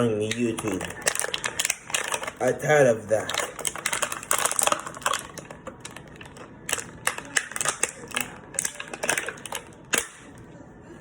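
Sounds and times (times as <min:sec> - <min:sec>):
plastic pieces clicking: 0:00.2 - 0:10.4.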